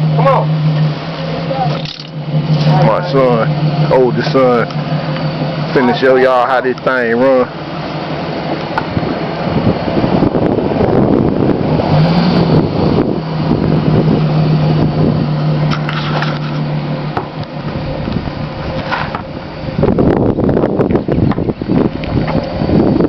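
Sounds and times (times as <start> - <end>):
car exhaust drone: 0.0 - 23.0.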